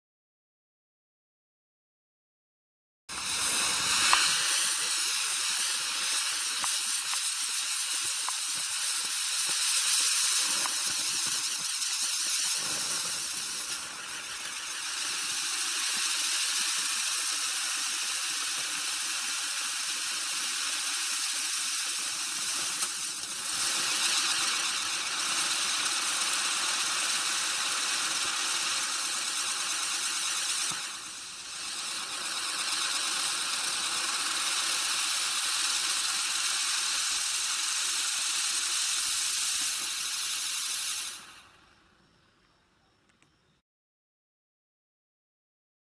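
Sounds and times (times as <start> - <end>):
firework wheel rushing hiss: 3.1 - 42.6.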